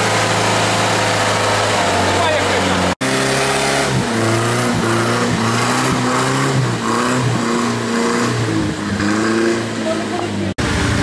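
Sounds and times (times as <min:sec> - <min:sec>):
off-road engine revving hard: 0:00.0 - 0:11.0.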